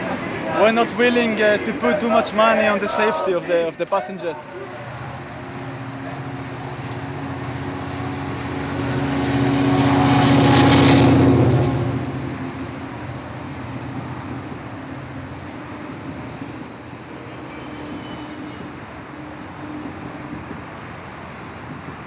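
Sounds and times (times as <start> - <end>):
train passing: 0.0 - 22.0.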